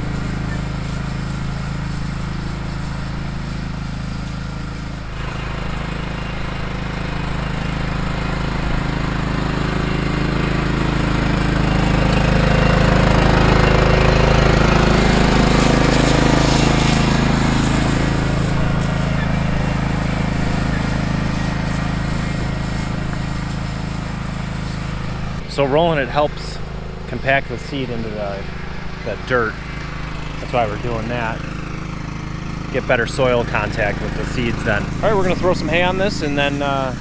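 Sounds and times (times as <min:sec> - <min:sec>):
lawn tractor engine running: 0:00.0 - 0:37.0.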